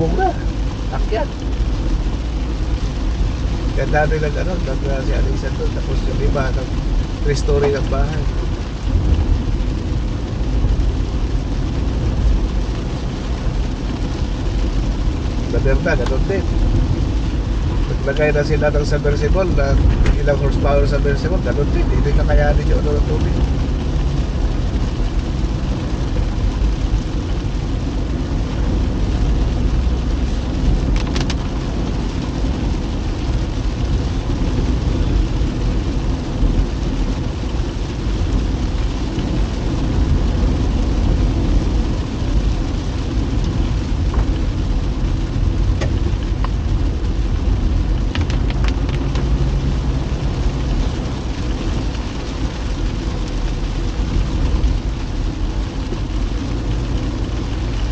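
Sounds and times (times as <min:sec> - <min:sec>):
car engine and road noise: 0:00.0 - 0:57.9
rain on car: 0:00.0 - 0:57.9.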